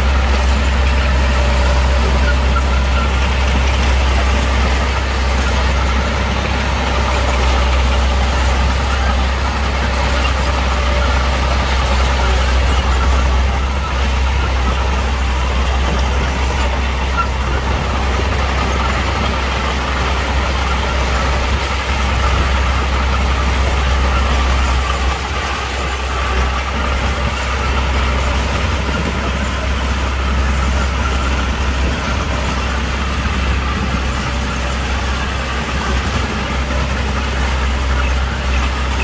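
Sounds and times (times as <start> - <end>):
heavy machinery engine: 0.0 - 39.0.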